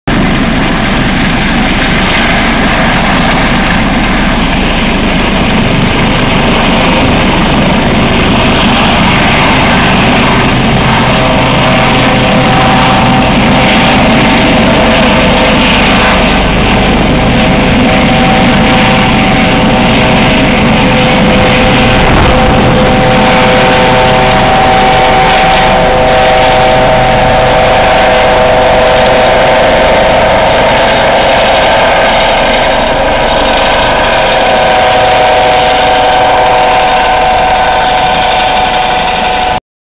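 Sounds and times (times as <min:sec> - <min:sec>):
helicopter turbine and rotor: 0:00.1 - 0:39.6
high whine: 0:00.1 - 0:39.6.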